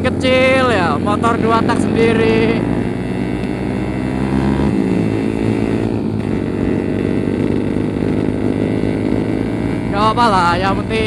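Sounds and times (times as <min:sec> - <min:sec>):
two-stroke motorcycle engine running: 0:00.0 - 0:11.0.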